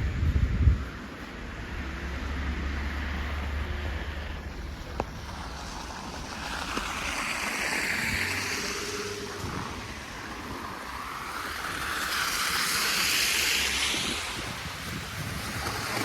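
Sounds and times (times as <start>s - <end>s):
storm wind blowing: 0.0s - 16.0s
wind buffeting microphone: 0.0s - 16.0s.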